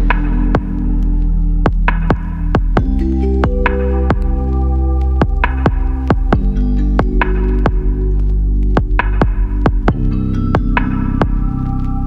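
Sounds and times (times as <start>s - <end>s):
lo-fi electronic music: 0.0s - 12.0s.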